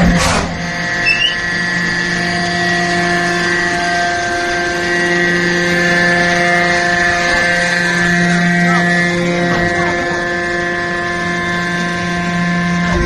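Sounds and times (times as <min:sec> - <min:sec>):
hydraulic baler whine: 0:00.0 - 0:13.0.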